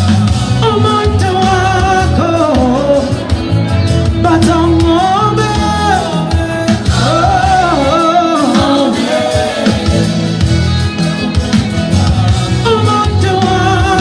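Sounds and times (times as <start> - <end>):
instrumental backing music: 0.0 - 14.0
man singing into a microphone: 0.0 - 14.0.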